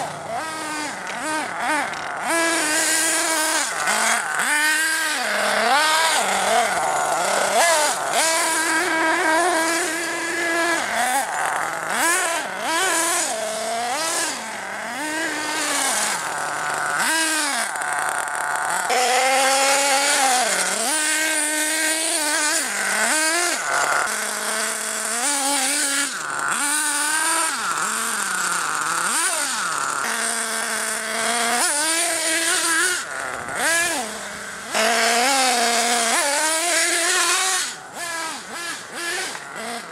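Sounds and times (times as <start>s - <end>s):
model engine revving: 0.0s - 39.9s.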